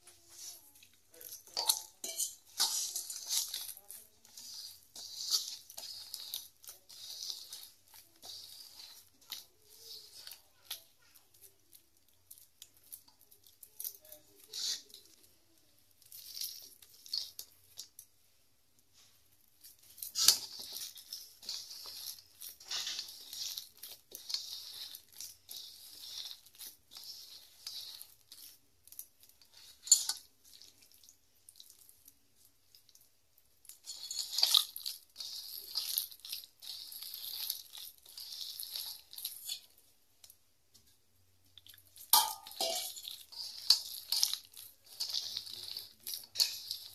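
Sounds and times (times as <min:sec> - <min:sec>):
dough scraping in steel bowl: 0:00.0 - 0:11.3, 0:12.3 - 0:15.4, 0:16.0 - 0:17.9, 0:19.6 - 0:30.7, 0:33.6 - 0:39.8, 0:41.8 - 0:46.9
hands kneading wet dough: 0:00.0 - 0:46.9.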